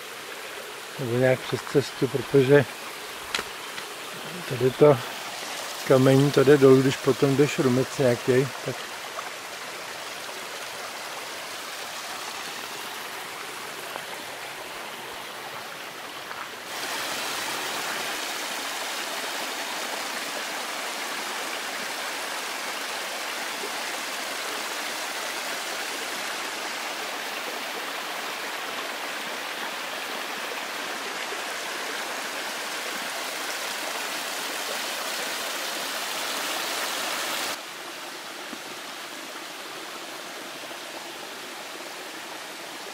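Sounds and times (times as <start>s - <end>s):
stream rushing over stones: 0.0s - 42.9s.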